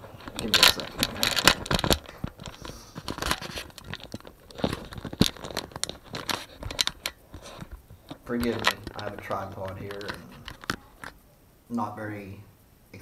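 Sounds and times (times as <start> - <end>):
camera handling knocks and scrapes: 0.2 - 11.2.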